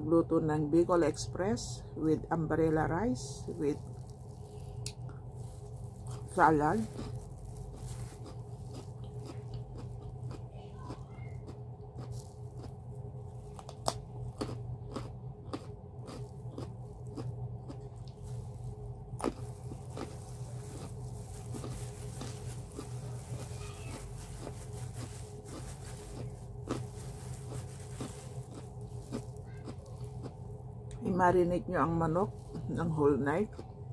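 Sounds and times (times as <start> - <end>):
steady low hum: 0.0 - 33.9
chewing and crunching food: 2.6 - 31.0, 32.1 - 33.9.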